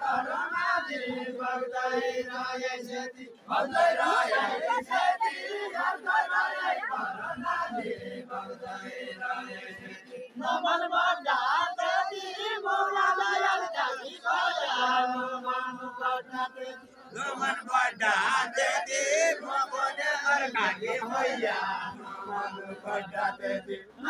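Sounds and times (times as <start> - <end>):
crowd noise: 0.0 - 24.0
group chanting chorus: 0.0 - 24.0.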